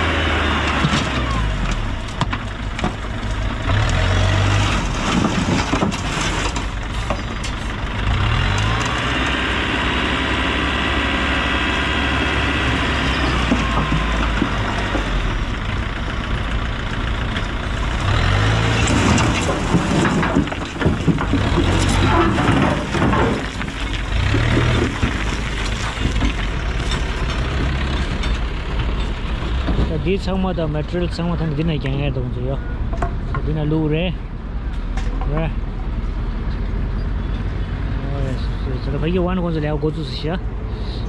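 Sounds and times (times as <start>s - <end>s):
diesel truck engine revving: 0.0s - 41.0s.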